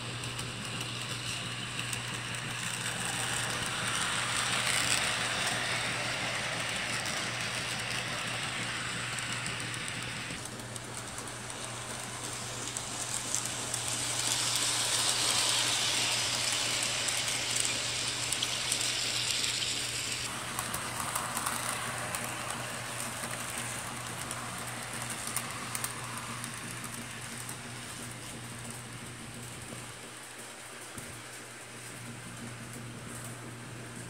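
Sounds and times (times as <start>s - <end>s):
model train wheels rattling: 0.0s - 34.0s.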